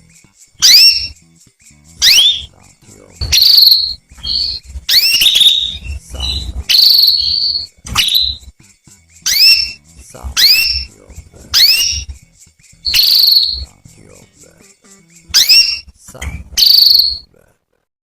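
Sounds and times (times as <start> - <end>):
canary chirping: 0.0 - 17.4.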